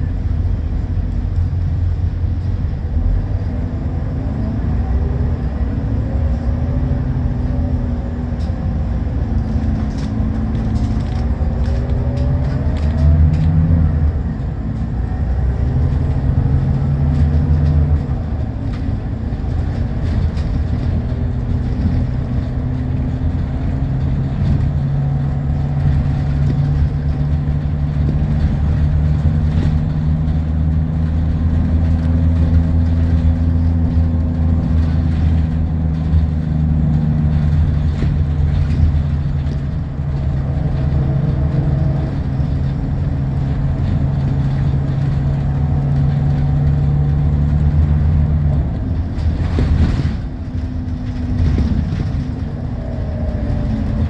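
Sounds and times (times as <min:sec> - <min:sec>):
bus diesel engine: 0:00.0 - 0:54.0
road noise: 0:00.0 - 0:54.0.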